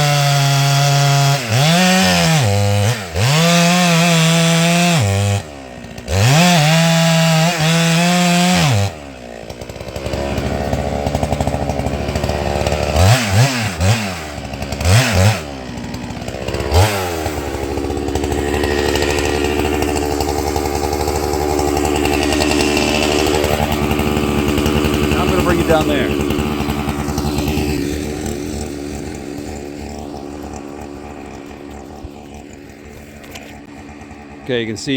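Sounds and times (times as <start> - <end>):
chainsaw revving and idling: 0.0 - 34.9.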